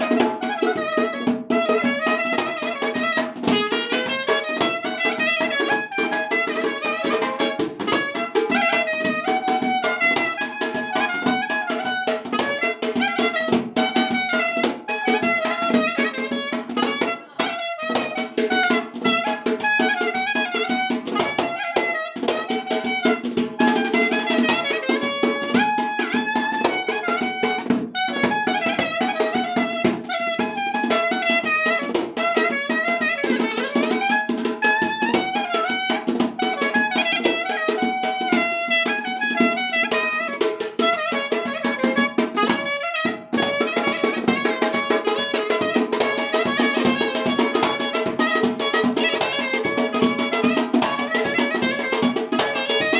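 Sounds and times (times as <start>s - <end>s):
quick steady drumming: 0.0s - 52.9s.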